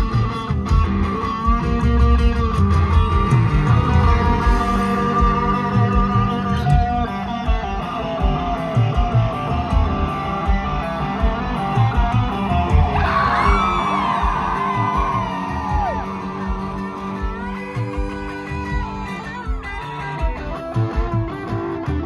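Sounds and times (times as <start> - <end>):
bass guitar: 0.0 - 22.0
country band playing: 0.0 - 22.0
electric guitar: 0.0 - 22.0
steady drum beat: 0.0 - 22.0.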